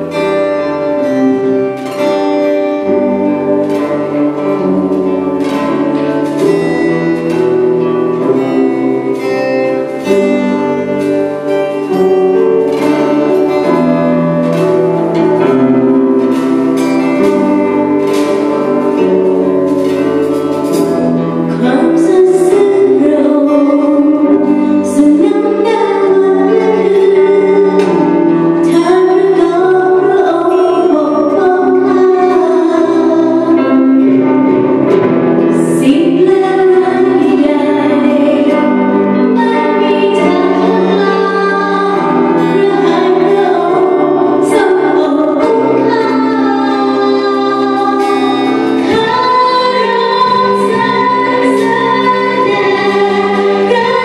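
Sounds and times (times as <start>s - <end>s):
electric guitar: 0.0s - 54.0s
keyboard: 0.0s - 54.0s
woman singing into microphone: 0.0s - 54.0s.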